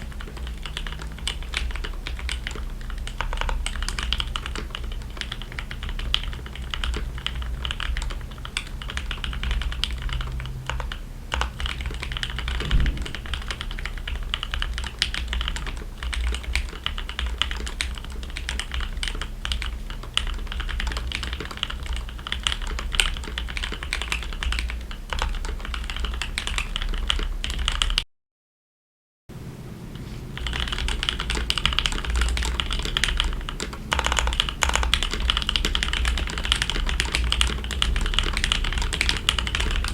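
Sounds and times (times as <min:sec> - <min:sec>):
fast typing on mechanical keyboard: 0:00.0 - 0:28.0, 0:30.4 - 0:39.9.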